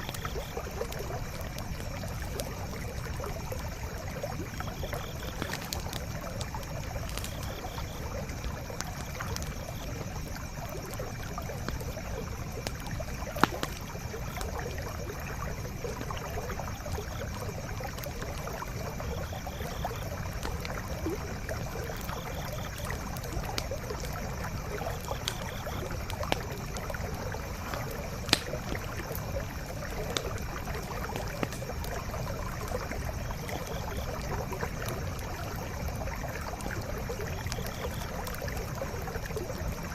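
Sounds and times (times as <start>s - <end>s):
campfire crackling and popping: 0.0s - 39.9s
stream flowing: 0.0s - 39.9s.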